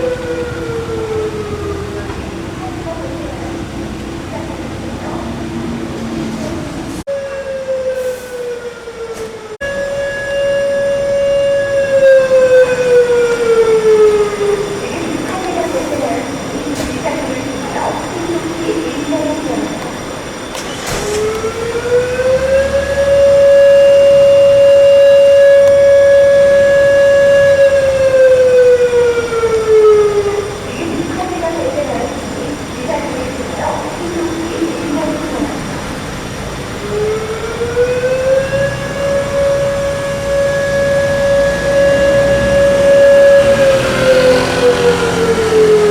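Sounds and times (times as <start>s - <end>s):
alarm siren sliding down: 0.0s - 45.9s.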